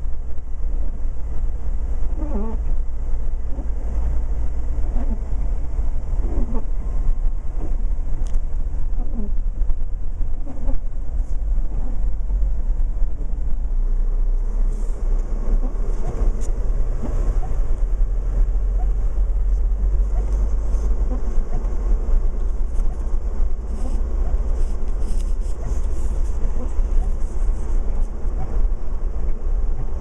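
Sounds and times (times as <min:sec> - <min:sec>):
truck driving from inside cab: 0:00.0 - 0:30.0.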